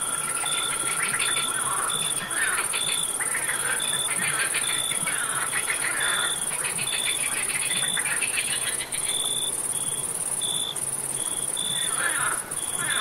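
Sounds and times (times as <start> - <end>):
cricket trill: 0.0 - 13.0
frogs croaking: 0.0 - 13.0.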